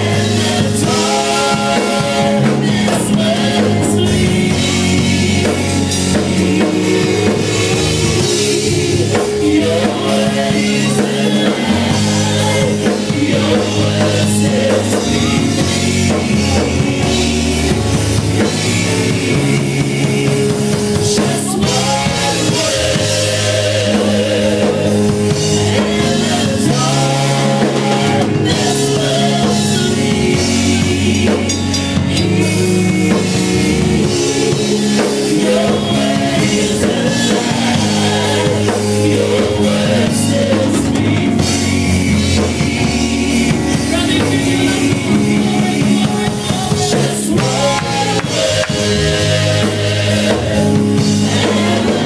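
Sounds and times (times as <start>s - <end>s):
drum kit: 0.0s - 52.0s
keyboard: 0.0s - 52.0s
singers holding long notes: 0.0s - 52.0s.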